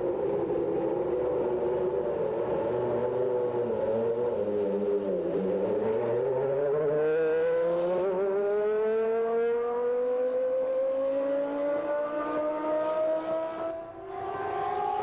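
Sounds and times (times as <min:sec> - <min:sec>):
racing car engine at high revs: 0:00.1 - 0:15.0.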